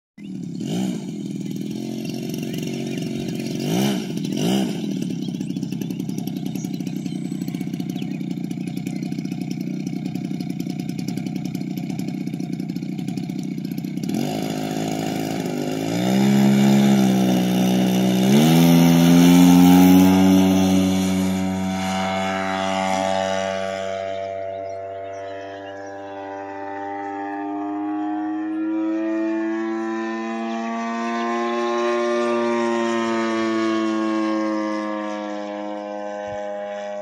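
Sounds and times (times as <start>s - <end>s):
model plane engine idling: 0.2s - 37.0s.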